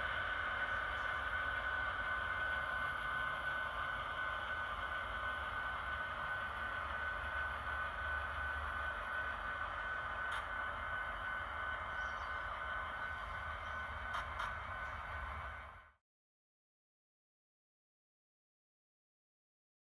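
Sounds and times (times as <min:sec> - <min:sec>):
model train motor whine: 0:00.0 - 0:16.0
wheels humming on rails: 0:00.0 - 0:16.0.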